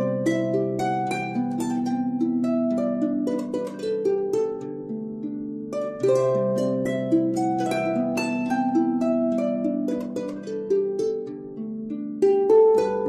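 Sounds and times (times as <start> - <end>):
harp melody: 0.0 - 13.0.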